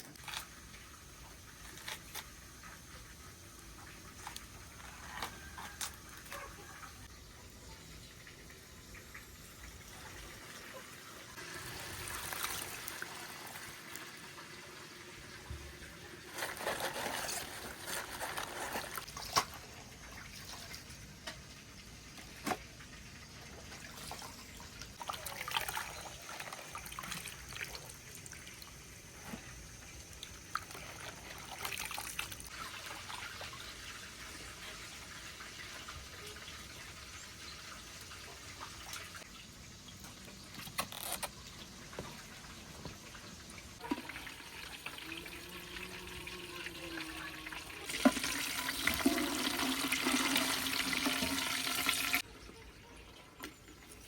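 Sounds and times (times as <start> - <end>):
water trickling and pouring: 7.8 - 15.6, 16.2 - 41.2, 41.8 - 54.0.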